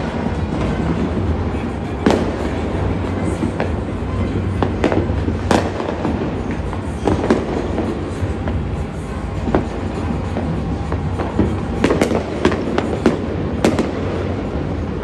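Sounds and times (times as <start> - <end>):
firecracker bangs: 0.0 - 15.0
rumbling din of fireworks: 0.0 - 15.0.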